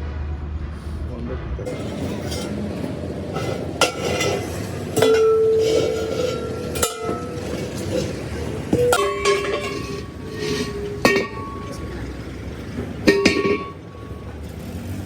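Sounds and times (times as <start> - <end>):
hammer striking metal rim: 1.7 - 14.3.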